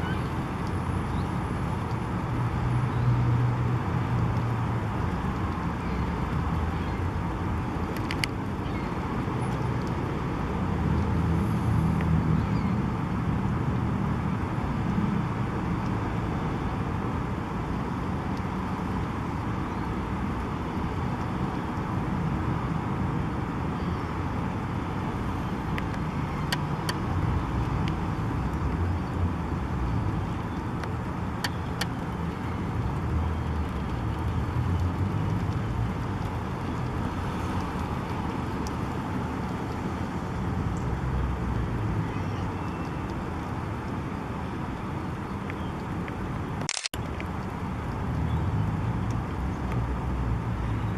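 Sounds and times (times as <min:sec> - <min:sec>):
cars passing with low rumble: 0:00.0 - 0:50.9.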